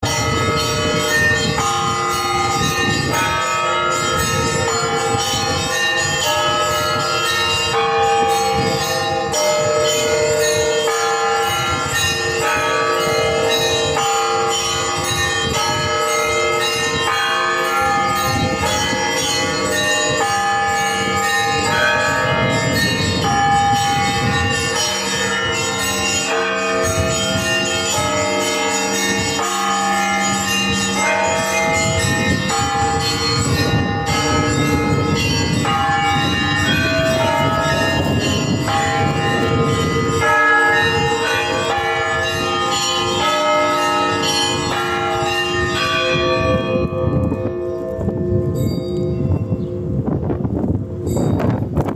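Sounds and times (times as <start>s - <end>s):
bells ringing in a peal: 0.0s - 51.9s.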